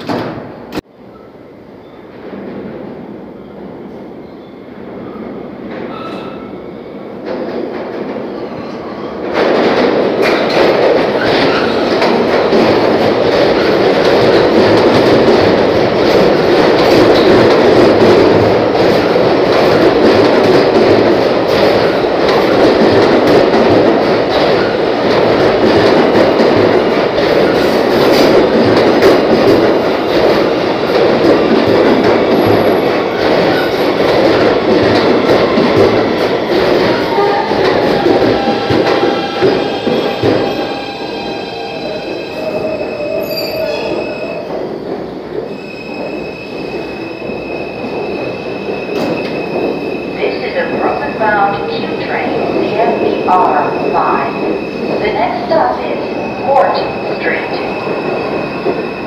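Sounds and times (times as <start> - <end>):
subway train rumbling on rails: 0.0 - 59.0
wheels clacking over rail joints: 9.1 - 59.0.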